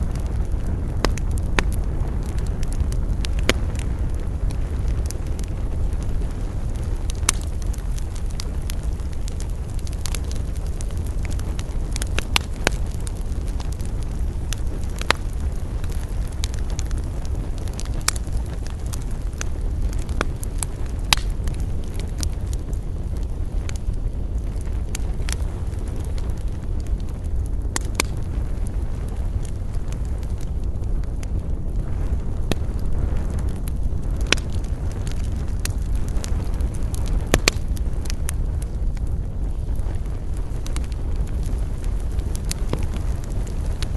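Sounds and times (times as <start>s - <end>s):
campfire crackling: 0.0s - 43.9s
fire popping: 0.0s - 43.9s
steady low rumble: 0.0s - 43.9s.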